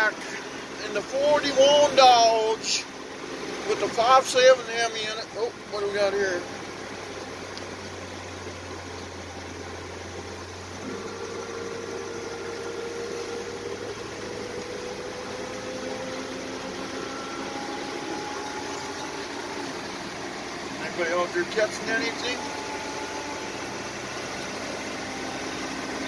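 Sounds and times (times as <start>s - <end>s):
road and wind noise: 0.0s - 26.0s
truck engine running: 0.0s - 26.0s.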